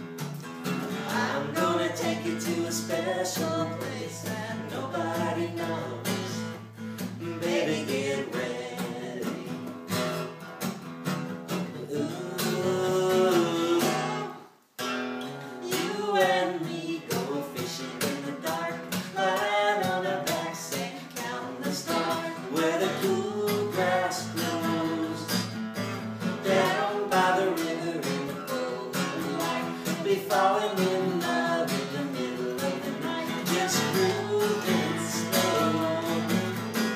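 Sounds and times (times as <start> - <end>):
acoustic guitars strummed and picked: 0.0 - 36.9.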